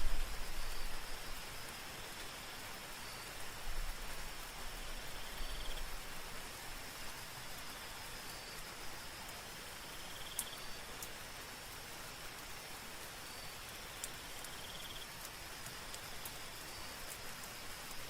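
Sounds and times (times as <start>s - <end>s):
insect trill: 0.0s - 6.1s, 7.1s - 11.0s, 12.2s - 18.0s
insect chirps: 0.0s - 18.0s
insects droning: 0.0s - 18.0s
soft rain hiss: 0.0s - 18.0s.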